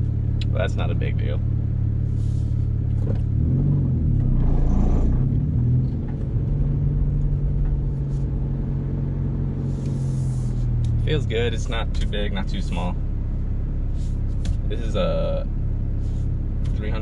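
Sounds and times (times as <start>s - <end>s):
car engine hum from inside cabin: 0.0s - 17.0s.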